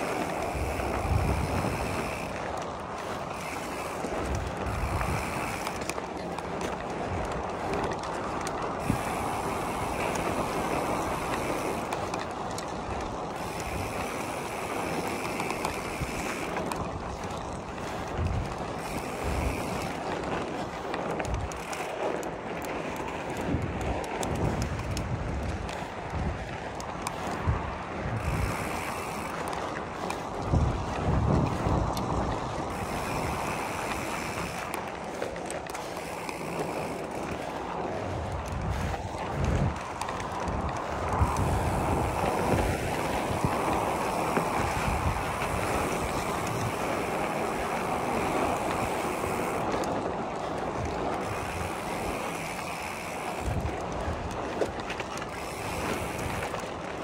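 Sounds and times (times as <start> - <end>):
steady rushing noise: 0.0 - 57.0
wind buffeting microphone: 0.0 - 57.0.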